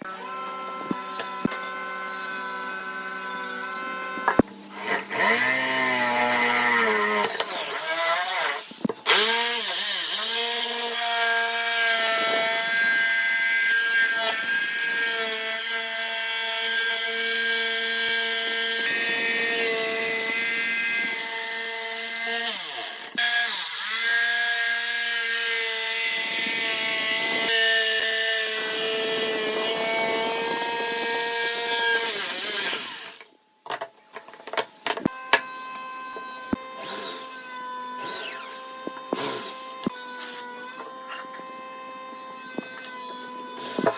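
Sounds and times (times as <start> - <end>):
power tool motor cutting wood: 0.0 - 33.3, 35.0 - 43.9.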